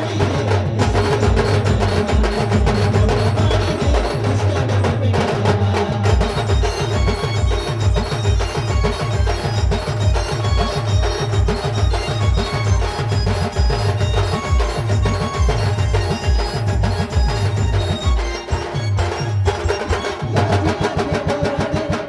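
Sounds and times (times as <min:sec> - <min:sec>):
driving bass drum beat: 0:00.0 - 0:22.0.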